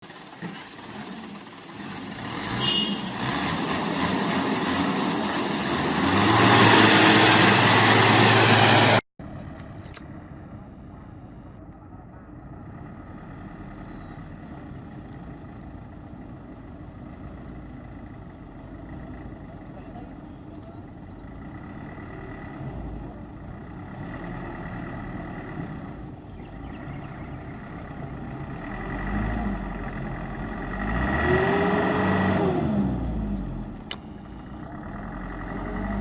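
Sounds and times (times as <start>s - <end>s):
quiet steady engine noise: 0.0s - 6.2s, 7.6s - 36.0s
heavy truck engine working hard: 0.0s - 36.0s.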